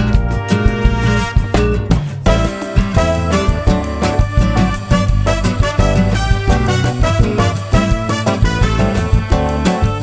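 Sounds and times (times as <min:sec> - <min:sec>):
upbeat latin music: 0:00.0 - 0:10.0.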